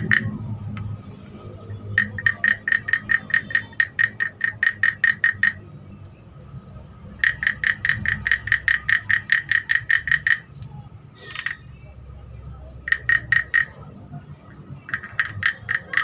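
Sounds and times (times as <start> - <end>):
wooden guiro hollow clicks: 0.0 - 1.0, 1.7 - 10.7, 12.8 - 16.0.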